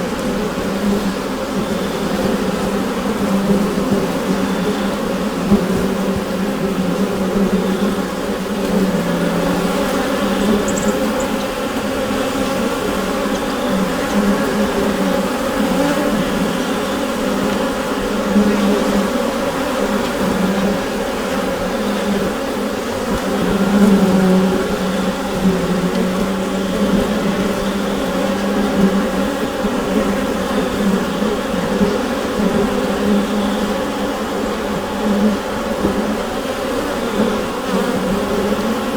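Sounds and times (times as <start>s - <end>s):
honeybee colony buzzing: 0.0s - 38.9s.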